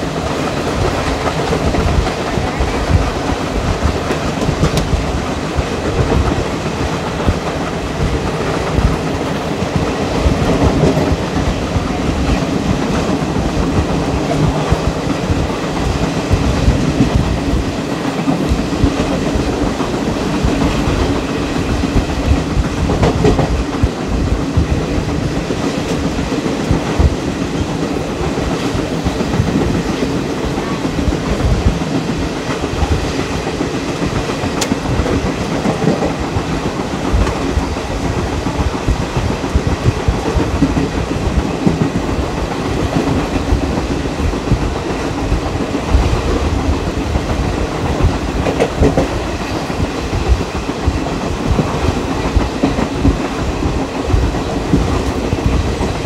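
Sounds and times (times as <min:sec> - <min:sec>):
train coach rumbling: 0:00.0 - 0:56.0.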